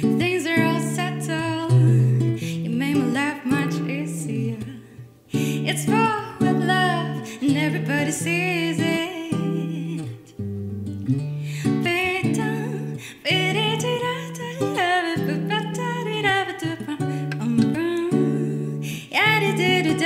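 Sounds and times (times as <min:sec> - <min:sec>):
woman singing into microphone: 0:00.0 - 0:10.3, 0:11.6 - 0:20.0
acoustic guitar chords: 0:00.0 - 0:20.0.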